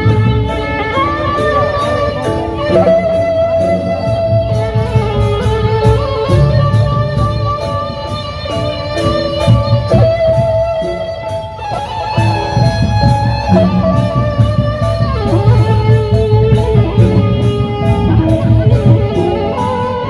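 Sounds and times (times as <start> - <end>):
bamboo flute melody: 0.0 - 20.0
big drums: 0.0 - 20.0.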